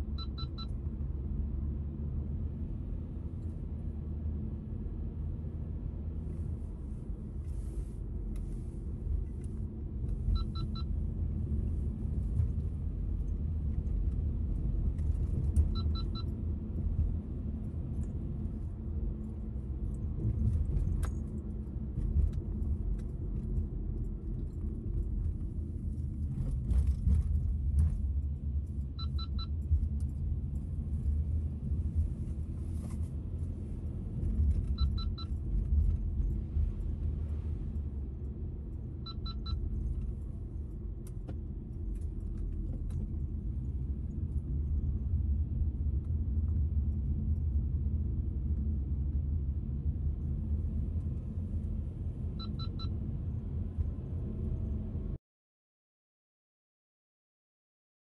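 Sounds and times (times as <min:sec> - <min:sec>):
car road and engine rumble: 0:00.0 - 0:55.2.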